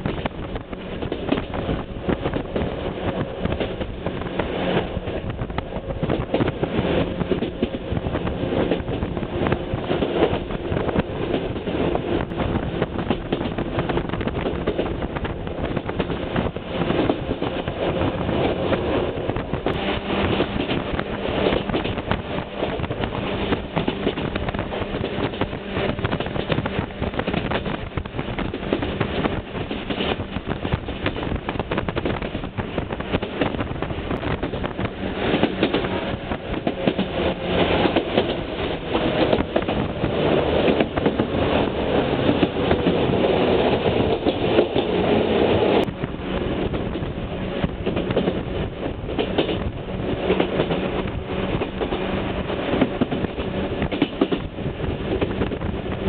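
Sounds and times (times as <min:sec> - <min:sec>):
train motor hum: 0:00.0 - 0:56.0
train wheels clattering over rails: 0:00.0 - 0:56.0.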